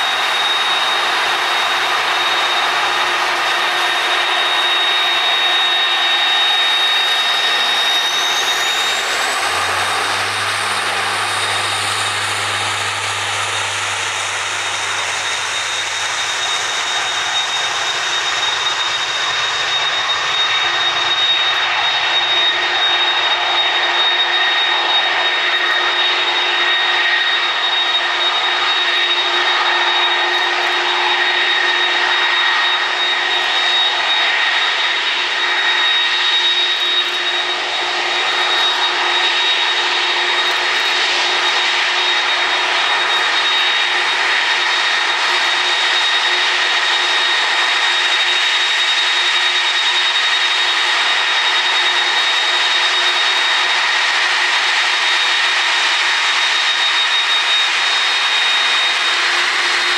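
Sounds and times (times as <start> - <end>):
jet airliner engines running: 0.0 - 59.9.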